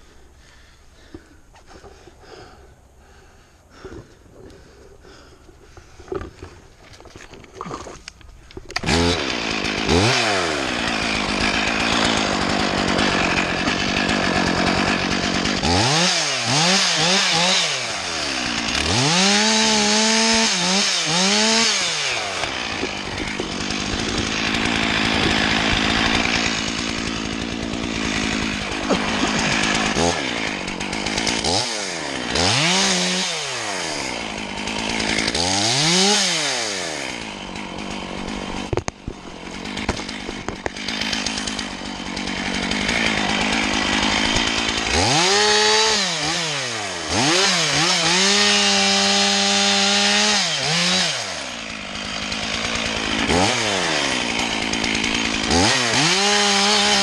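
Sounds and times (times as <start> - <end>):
chainsaw pull-start: 0.0 - 57.0
chainsaw revving and idling: 0.0 - 57.0.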